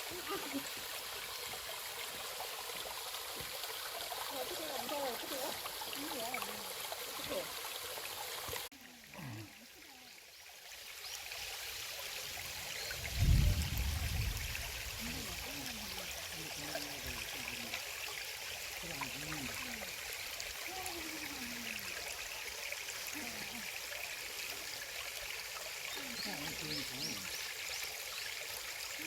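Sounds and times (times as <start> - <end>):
stream babbling: 0.0 - 29.0.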